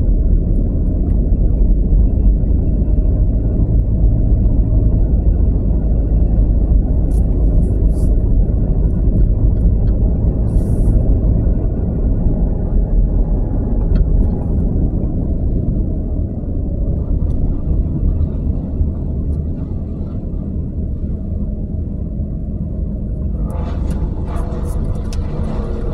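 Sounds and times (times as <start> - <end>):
vehicle driving slowly: 0.0 - 25.9.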